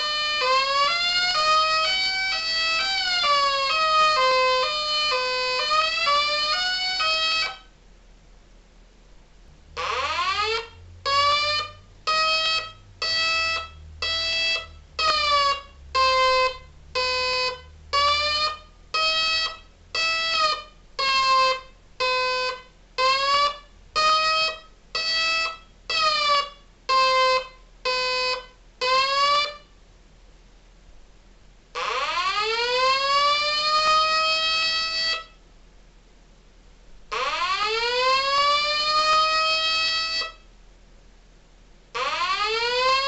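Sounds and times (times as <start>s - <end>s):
pulsing siren blasts: 0.0s - 7.6s, 9.8s - 29.6s, 31.8s - 35.3s, 37.1s - 40.4s, 42.0s - 43.0s.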